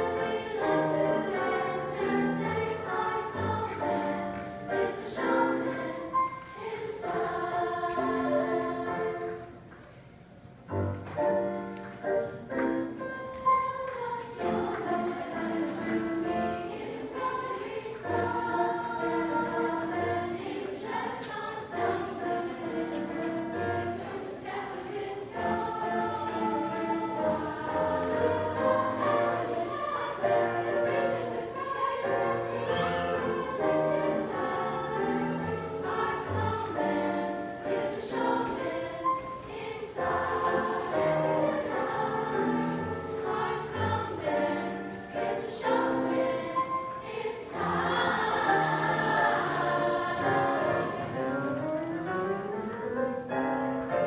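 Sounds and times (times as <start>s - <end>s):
choir singing: 0.0s - 10.1s, 10.7s - 54.0s.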